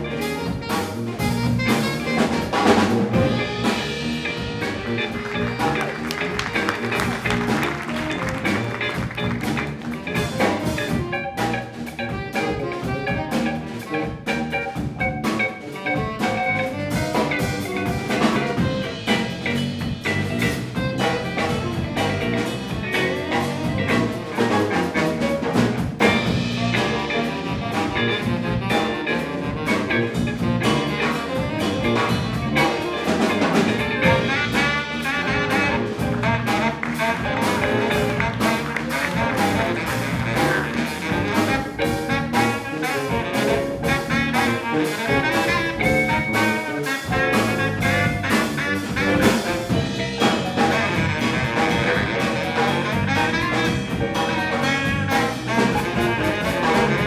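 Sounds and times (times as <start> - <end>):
jazz band playing: 0.0 - 57.0.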